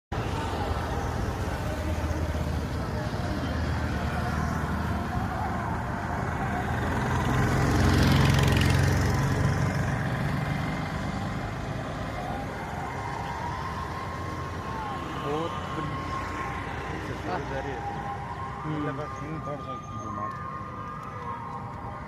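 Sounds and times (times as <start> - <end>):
vehicle engine rumble passing: 0.2 - 22.0.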